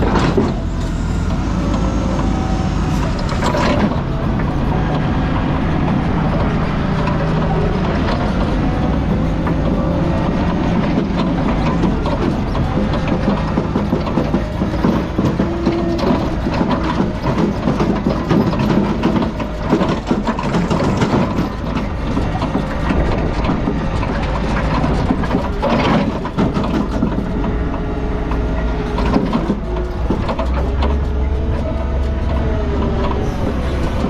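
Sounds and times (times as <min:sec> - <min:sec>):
heavy diesel machinery running: 0:00.0 - 0:34.0
metal clanks and knocks: 0:05.8 - 0:33.3.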